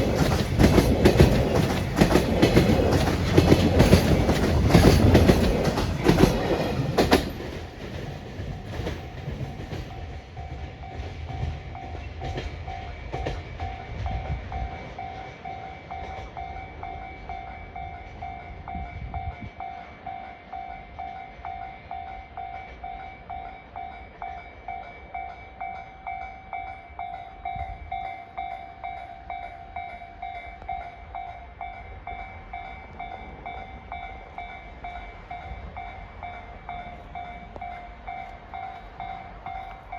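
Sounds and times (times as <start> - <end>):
freight train rumbling past: 0.0 - 39.9
level crossing warning bell: 0.0 - 39.9.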